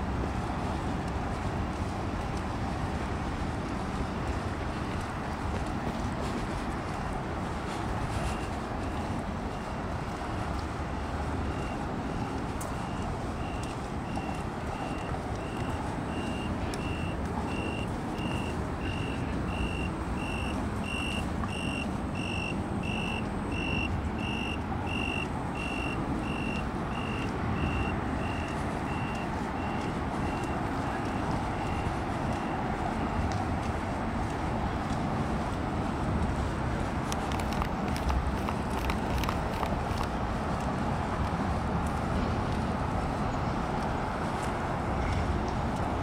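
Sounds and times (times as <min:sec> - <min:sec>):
low city hum: 0:00.0 - 0:46.0.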